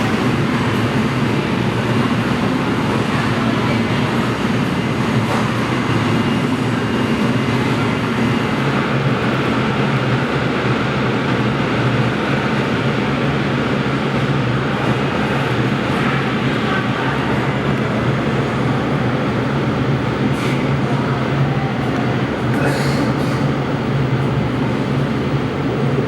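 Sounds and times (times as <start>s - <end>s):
loud machinery hum: 0.0s - 26.0s.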